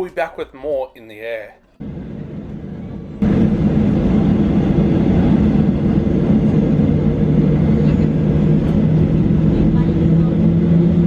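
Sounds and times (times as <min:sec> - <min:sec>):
jet engines rumbling in cabin: 0:01.8 - 0:11.0.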